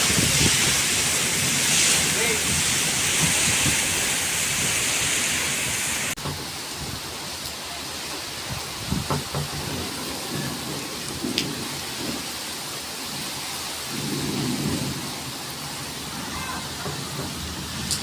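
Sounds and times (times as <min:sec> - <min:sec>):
thunder rumbling: 0:00.0 - 0:07.1, 0:08.4 - 0:18.0
heavy rain: 0:00.0 - 0:18.0.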